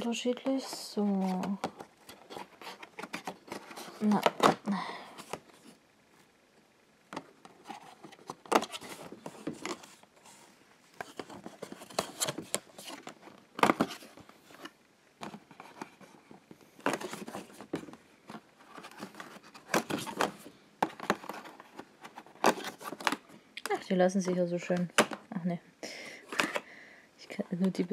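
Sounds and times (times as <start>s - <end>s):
card rustling and scraping: 0.4s - 5.8s, 7.2s - 24.8s, 26.2s - 26.6s.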